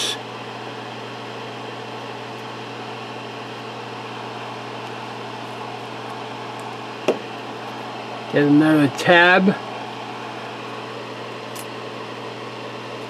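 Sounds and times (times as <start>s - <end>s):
fume extractor fan whirring: 0.0s - 13.0s
low electric hum: 0.0s - 13.0s.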